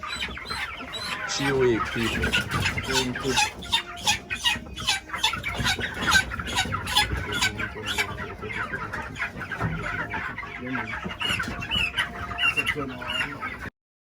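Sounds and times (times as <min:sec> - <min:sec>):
chickens clucking: 0:00.0 - 0:13.7.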